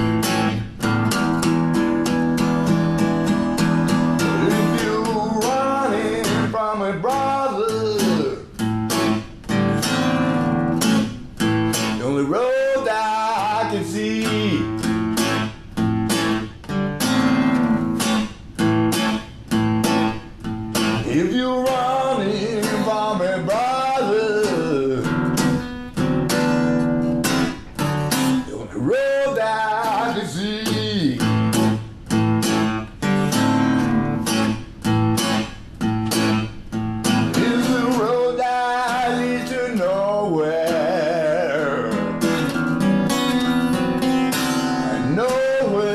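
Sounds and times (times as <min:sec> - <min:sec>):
acoustic blues guitar strumming: 0:00.0 - 0:45.9
bending guitar melody: 0:00.0 - 0:45.9.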